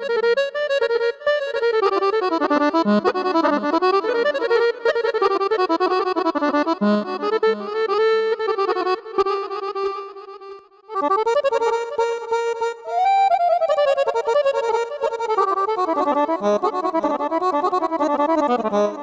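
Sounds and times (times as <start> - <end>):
keyboard accordion melody: 0.0 - 19.0.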